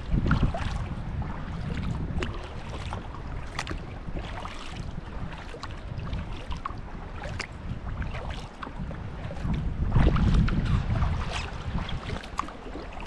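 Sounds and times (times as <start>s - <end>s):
paddle splashing in water: 0.0s - 13.0s
wind rumble on microphone: 0.0s - 13.0s.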